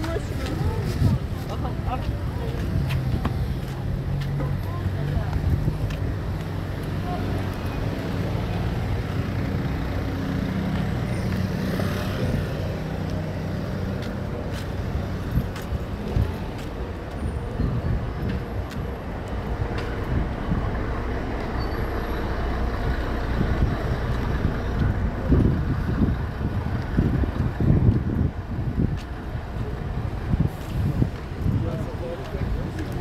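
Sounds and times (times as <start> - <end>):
heavy vehicle engine humming: 0.0 - 33.0
rumble of passing traffic: 0.0 - 33.0.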